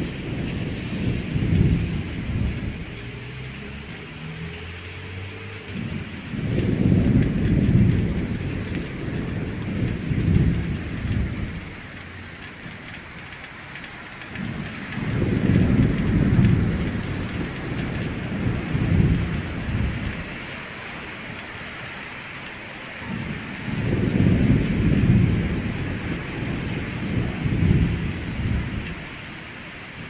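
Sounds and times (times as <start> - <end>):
rain hissing: 0.0 - 30.0
thunder rumbling: 0.0 - 30.0.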